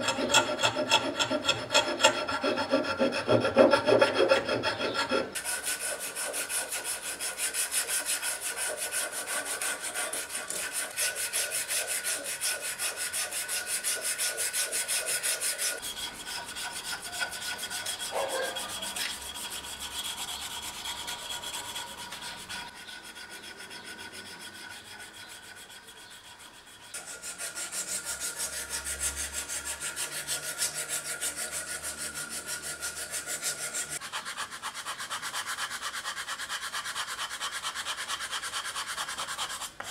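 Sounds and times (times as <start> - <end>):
hand file rasping: 0.0 - 39.9.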